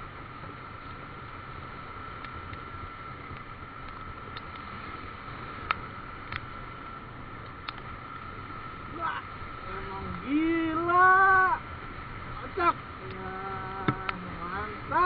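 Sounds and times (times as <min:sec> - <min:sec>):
motorcycle road and engine noise: 0:00.0 - 0:15.0
steady whine: 0:00.0 - 0:15.0.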